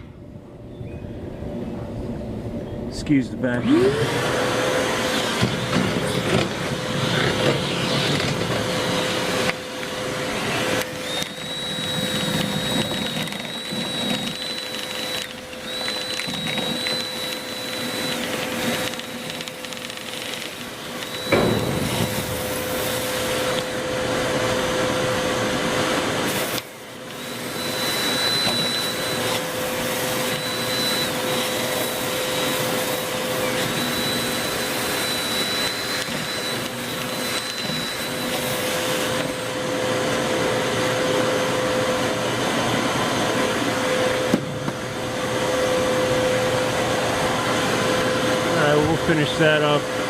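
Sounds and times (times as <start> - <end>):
rotary brush motor whining: 3.5 - 50.0.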